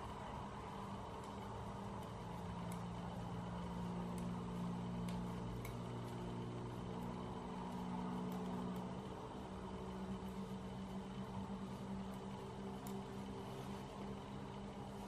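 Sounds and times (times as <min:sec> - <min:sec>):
knitting needles ticking: 0:00.0 - 0:14.7
low mechanical hum: 0:00.0 - 0:15.0.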